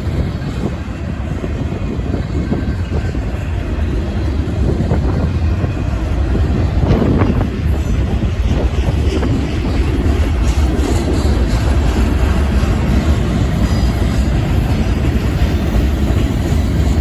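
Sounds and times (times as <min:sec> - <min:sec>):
train clatter: 0:00.0 - 0:17.0
train wheels rumbling on rail: 0:00.0 - 0:17.0
wind buffeting microphone: 0:00.0 - 0:17.0.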